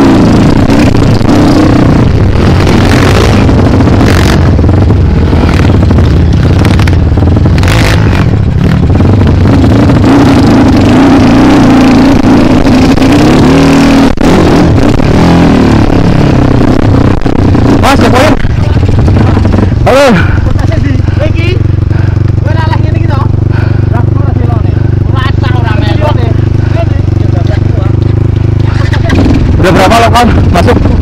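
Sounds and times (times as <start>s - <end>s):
dirt bike engine running: 0.0s - 31.0s.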